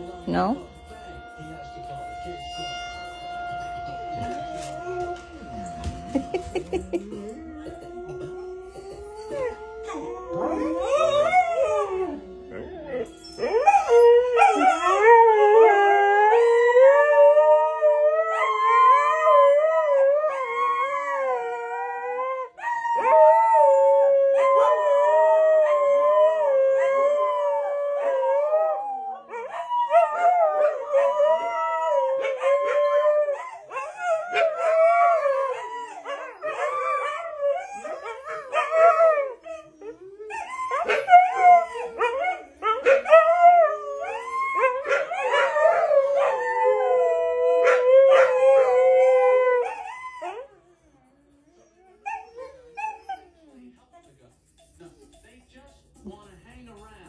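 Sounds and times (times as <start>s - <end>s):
dogs howling in chorus: 4.2s - 53.4s.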